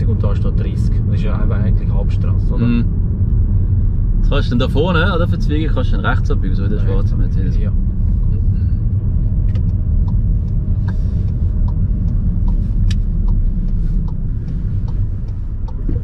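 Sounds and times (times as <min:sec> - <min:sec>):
car engine and road rumble: 0:00.0 - 0:16.0
turn signal ticking: 0:00.0 - 0:16.0.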